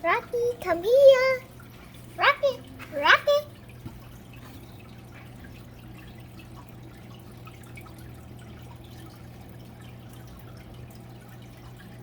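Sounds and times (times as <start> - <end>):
aquarium water trickling: 0.0 - 12.0.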